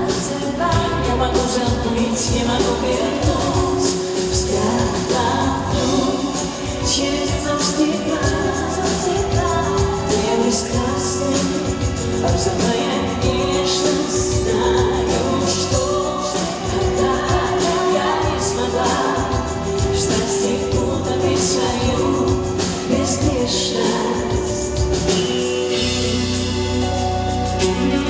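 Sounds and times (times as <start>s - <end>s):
band playing pop song: 0.0s - 28.0s
person singing: 0.0s - 28.0s
steady drum beat: 0.0s - 28.0s.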